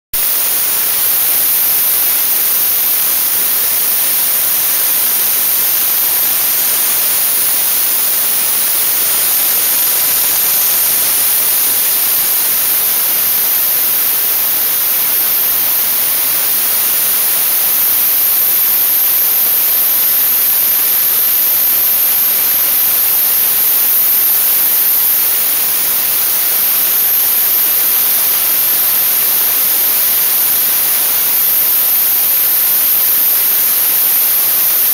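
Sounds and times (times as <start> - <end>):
dry-ice blasting gun hissing: 0.2 - 34.6.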